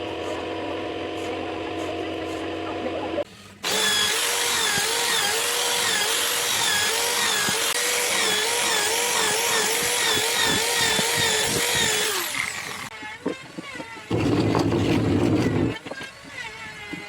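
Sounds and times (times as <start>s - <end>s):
scroll saw cutting wood: 0.0s - 17.0s.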